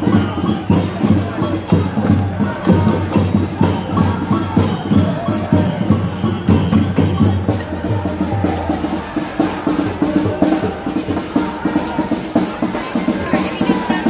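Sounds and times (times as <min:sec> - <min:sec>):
percussion beat music: 0:00.0 - 0:14.0.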